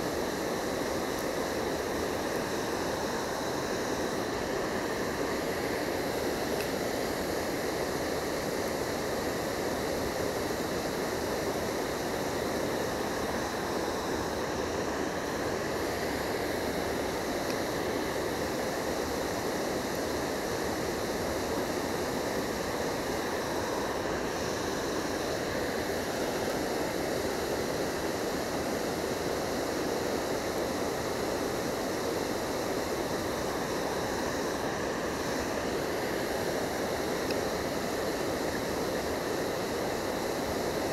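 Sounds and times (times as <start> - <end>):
water rushing over weir: 0.0 - 40.9.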